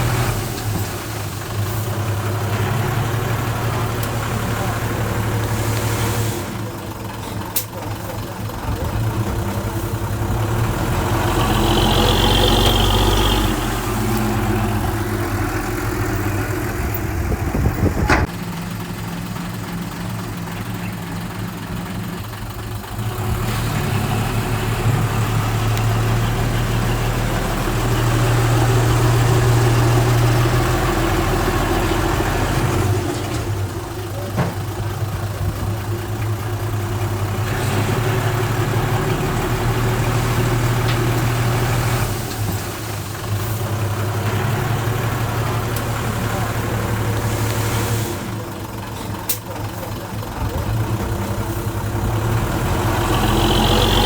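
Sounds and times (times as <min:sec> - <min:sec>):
diesel earthmoving machinery running: 0:00.0 - 0:54.0.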